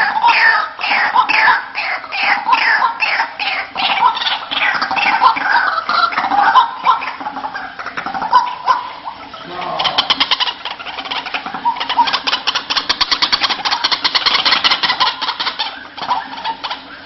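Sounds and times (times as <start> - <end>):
bird call with harsh pulses: 0.0 - 17.0.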